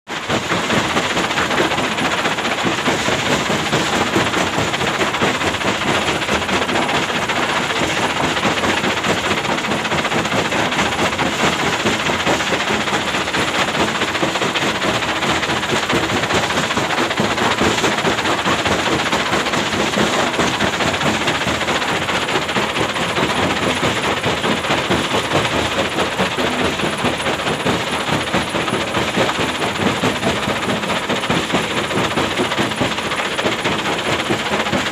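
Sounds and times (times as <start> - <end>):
excavator engine running: 0.2 - 34.9.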